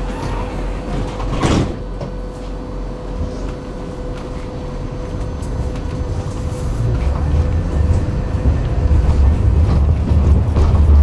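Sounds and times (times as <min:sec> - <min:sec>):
tram equipment humming: 0:00.0 - 0:11.0
tram rumble: 0:00.0 - 0:11.0.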